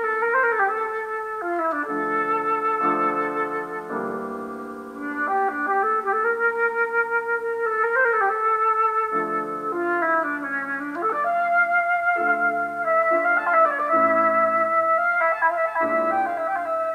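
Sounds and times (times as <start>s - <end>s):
instrumental music with held notes: 0.0s - 16.9s.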